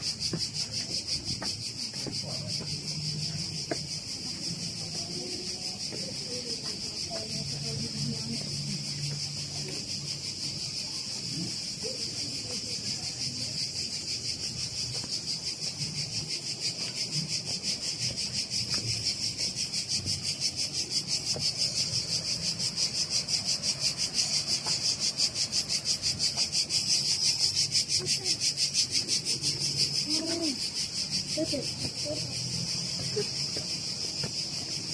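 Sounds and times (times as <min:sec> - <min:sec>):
cicadas pulsing chorus: 0:00.0 - 0:34.9.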